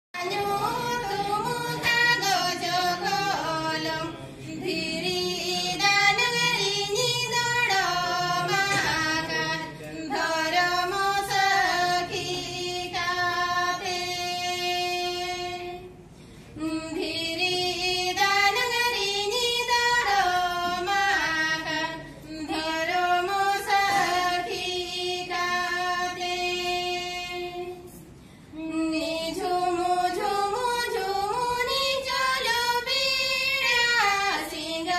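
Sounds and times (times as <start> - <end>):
two women singing unaccompanied: 0.2 - 34.9.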